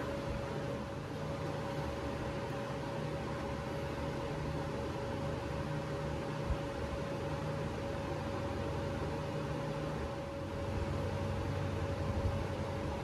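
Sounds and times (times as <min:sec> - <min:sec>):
mechanical hum with hiss: 0:00.0 - 0:13.0.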